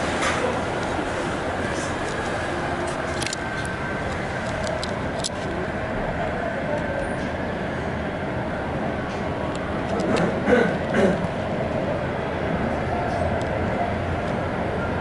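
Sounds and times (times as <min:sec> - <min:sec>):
city traffic hum: 0:00.0 - 0:15.0.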